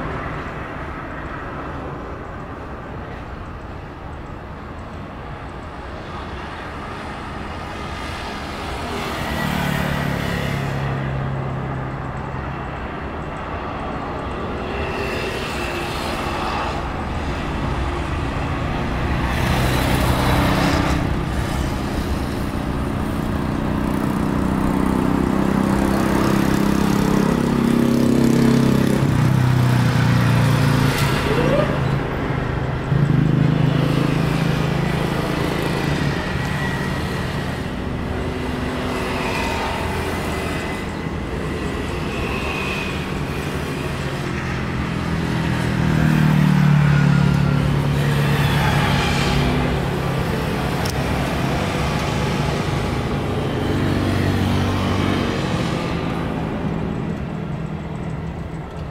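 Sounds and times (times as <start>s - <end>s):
jet engines rumbling: 0.0s - 58.9s
road traffic hum: 0.0s - 58.9s.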